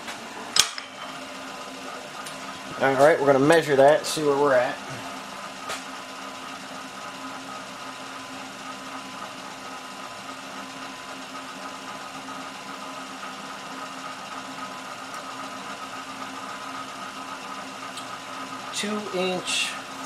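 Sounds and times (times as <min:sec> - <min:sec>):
high motor whine: 0:00.0 - 0:20.0
machine motor hum: 0:00.0 - 0:20.0.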